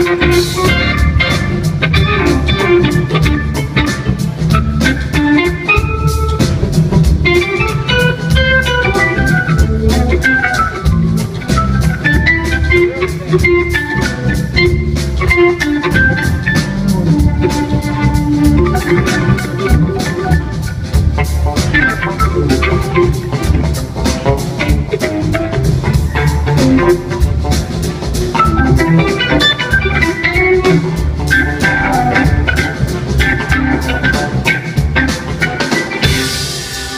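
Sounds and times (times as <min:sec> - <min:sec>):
heavy bass line: 0:00.0 - 0:35.4
steady drum beat: 0:00.0 - 0:36.9.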